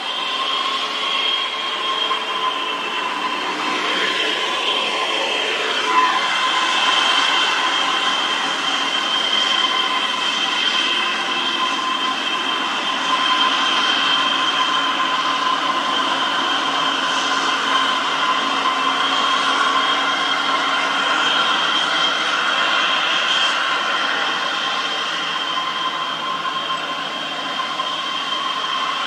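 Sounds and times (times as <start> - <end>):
high whine: 0.0 - 29.0
truck diesel engines droning: 0.0 - 29.0.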